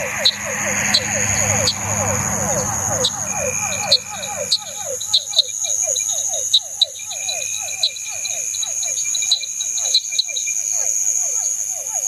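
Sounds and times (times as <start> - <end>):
frogs calling: 0.0 - 12.0
insects trilling: 0.0 - 12.0.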